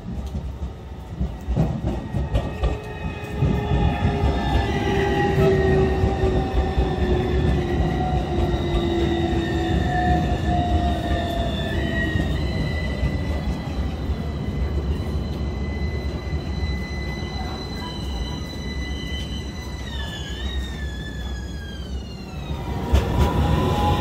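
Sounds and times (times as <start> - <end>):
tram wheels rumbling on rail: 0.0 - 24.0.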